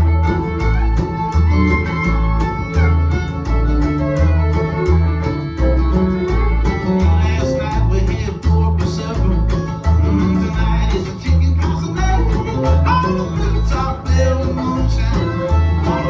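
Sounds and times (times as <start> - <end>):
alternating bass line: 0.0 - 16.0
fiddle playing: 0.0 - 16.0
guitar playing: 0.0 - 16.0.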